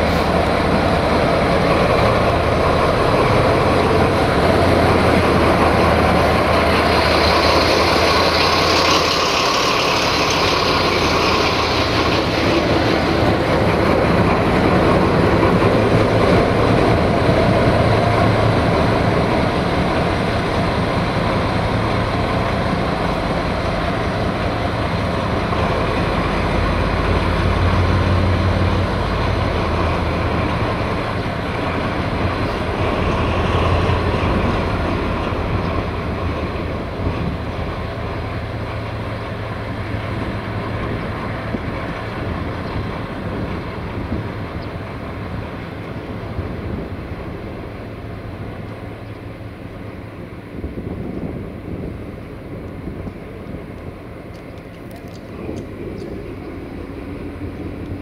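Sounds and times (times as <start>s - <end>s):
locomotive diesel engine throbbing: 0.0s - 58.0s.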